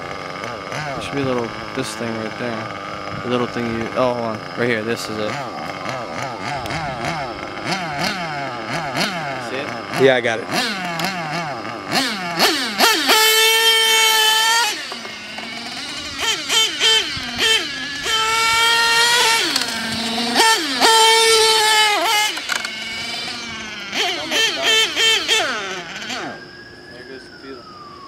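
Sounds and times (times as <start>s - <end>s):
rc car motor buzzing: 0.0s - 27.9s.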